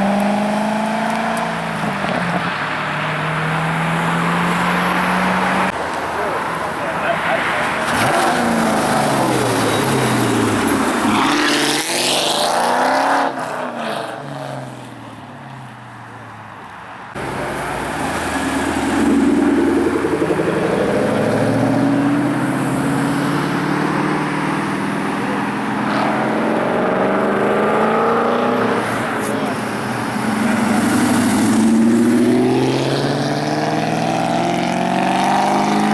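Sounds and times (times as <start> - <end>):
muscle car engines revving: 0.0 - 14.8, 17.1 - 35.9.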